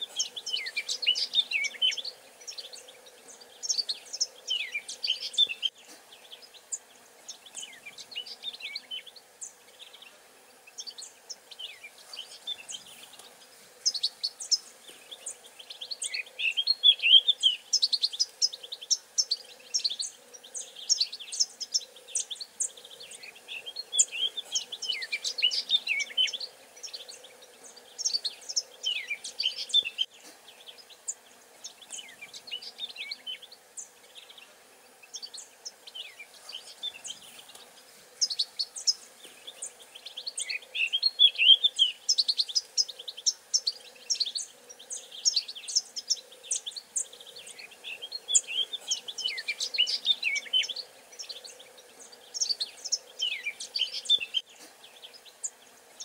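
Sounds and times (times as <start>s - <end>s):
faint insect drone: 0.0s - 56.0s
songbirds chirping and trilling: 0.0s - 56.0s.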